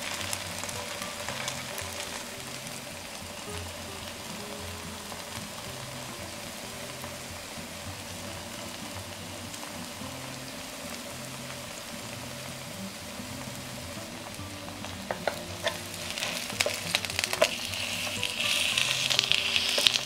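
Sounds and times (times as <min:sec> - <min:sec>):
pancakes sizzling in oil: 0:00.0 - 0:20.0.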